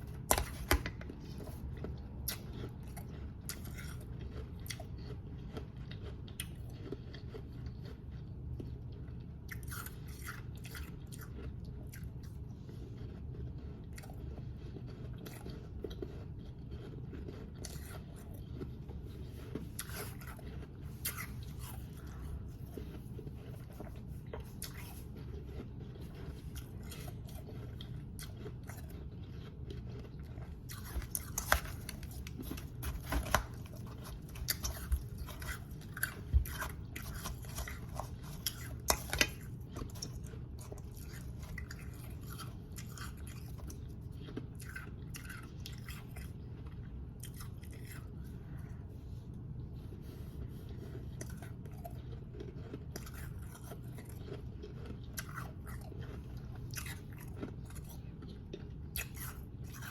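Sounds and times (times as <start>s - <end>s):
chewing ice crunches: 0.0s - 48.8s, 49.8s - 59.9s
steady low hum: 0.0s - 59.9s.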